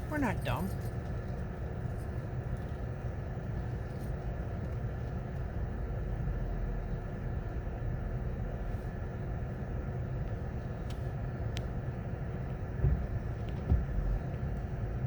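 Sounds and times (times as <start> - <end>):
wind buffeting a car: 0.0 - 15.0.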